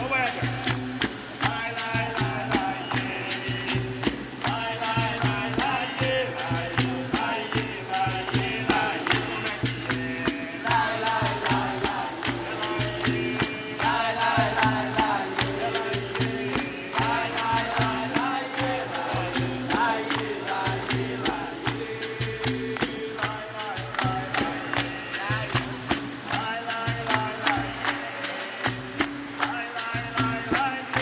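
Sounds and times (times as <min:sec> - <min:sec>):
percussion beat: 0:00.0 - 0:31.0
voices singing together: 0:00.0 - 0:31.0.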